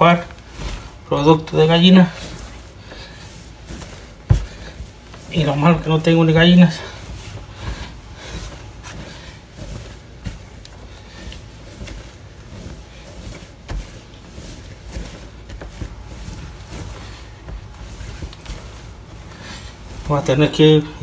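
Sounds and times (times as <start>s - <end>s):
dough kneading thumps: 0.0s - 21.0s.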